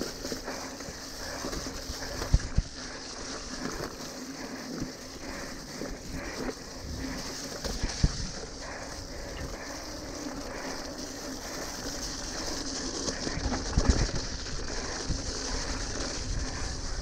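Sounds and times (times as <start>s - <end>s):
bike tyres rushing and rattling: 0.0s - 17.0s.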